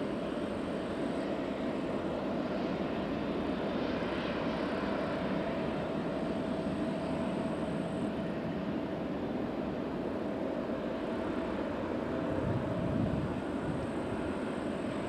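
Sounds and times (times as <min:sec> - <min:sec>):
jet engines rumbling: 0:00.0 - 0:15.0
thin steady engine whine: 0:00.0 - 0:15.0.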